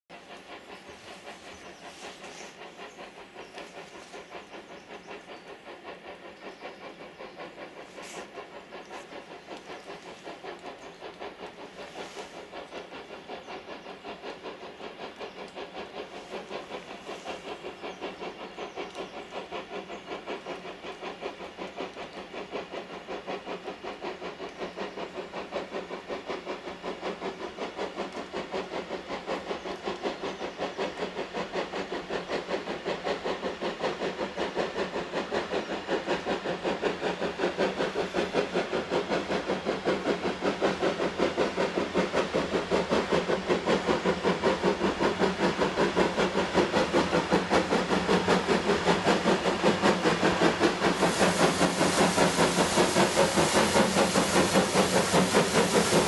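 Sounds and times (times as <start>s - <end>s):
steam locomotive exhaust beats: 0.1s - 56.0s.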